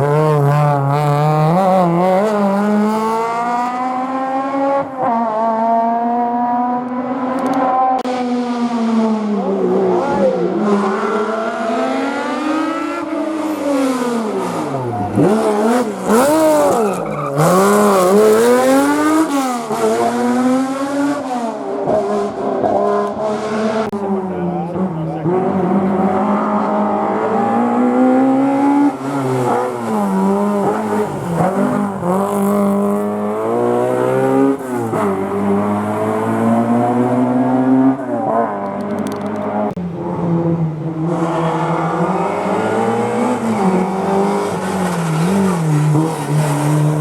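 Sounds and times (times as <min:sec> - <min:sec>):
rally car engine revving: 0:00.0 - 0:47.0.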